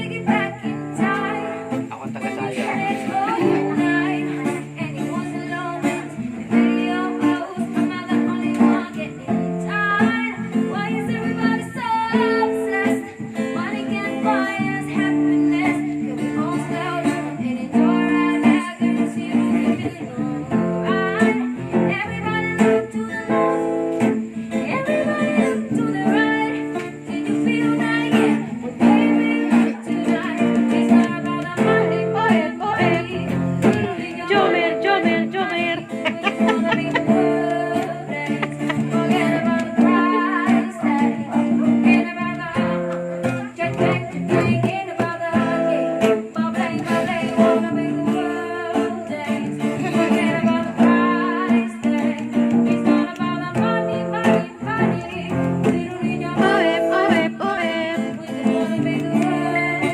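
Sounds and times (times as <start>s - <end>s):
person singing: 0.0s - 9.3s, 10.2s - 59.9s
guitar playing chords: 0.0s - 9.6s, 19.8s - 59.9s.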